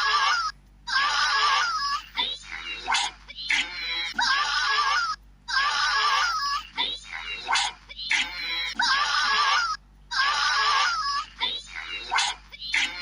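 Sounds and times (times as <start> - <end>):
pig-like squealing: 0.0 - 13.0.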